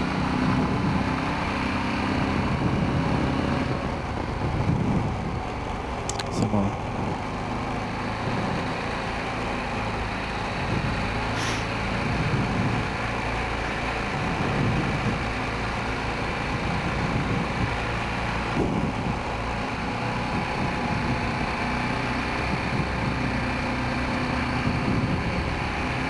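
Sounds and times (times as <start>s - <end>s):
quad bike engine running: 0.0s - 26.0s.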